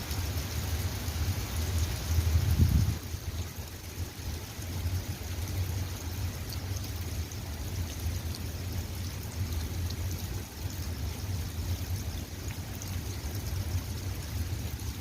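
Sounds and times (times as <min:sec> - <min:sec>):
steady rain falling: 0:00.0 - 0:15.0
steady low rumble: 0:00.2 - 0:15.0.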